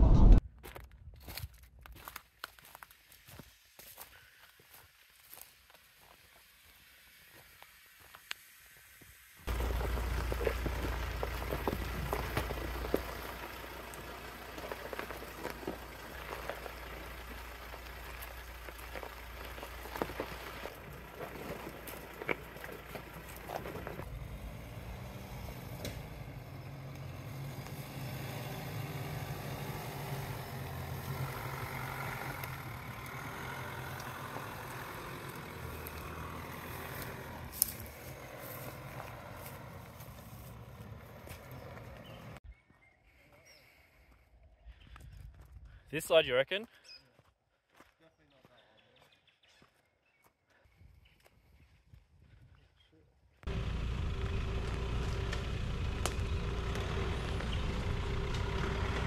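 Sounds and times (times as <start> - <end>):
vehicle engine and tyre rumble: 0.0 - 46.0, 50.5 - 59.0.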